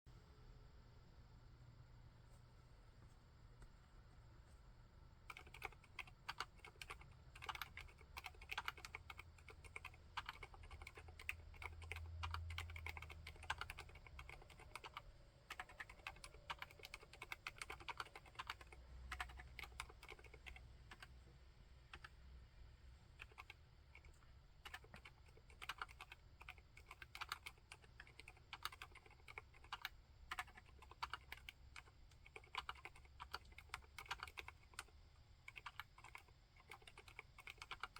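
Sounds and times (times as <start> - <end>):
quiet keyboard typing: 5.2 - 22.3, 23.0 - 37.9.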